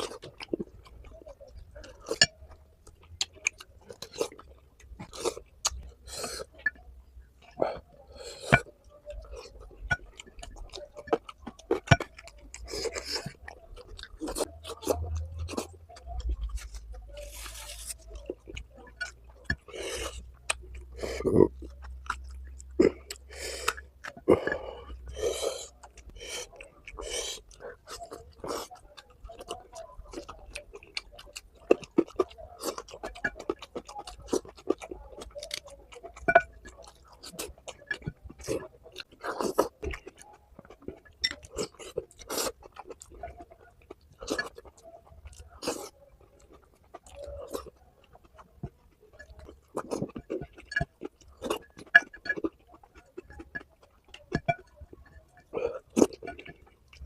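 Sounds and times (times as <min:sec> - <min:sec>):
person chewing with mouth sounds: 0:00.0 - 0:57.0.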